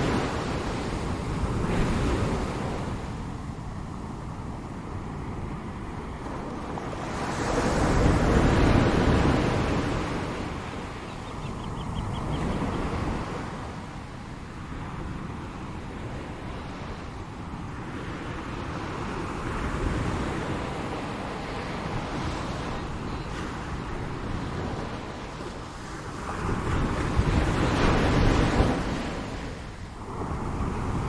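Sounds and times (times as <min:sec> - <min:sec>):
ocean surf washing: 0:00.0 - 0:31.0.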